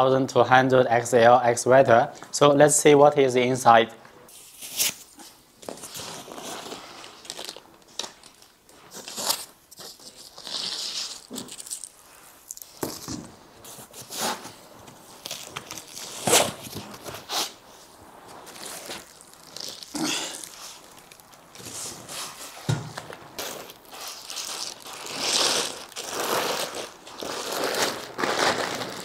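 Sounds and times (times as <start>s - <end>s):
foam rustling and scraping: 4.3s - 7.6s, 8.3s - 29.0s.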